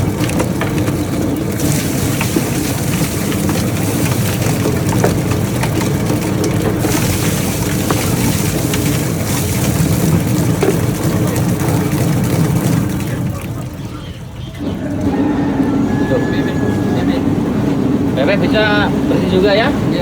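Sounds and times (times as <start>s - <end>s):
feather-plucking machine rumbling: 0.0s - 20.0s.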